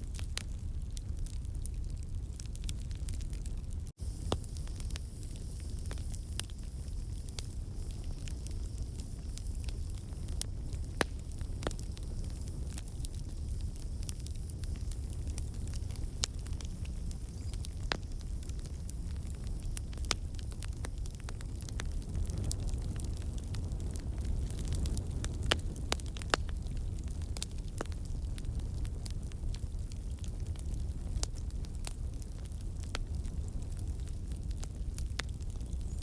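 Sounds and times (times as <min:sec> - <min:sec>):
low rush of flame: 0:00.0 - 0:36.0.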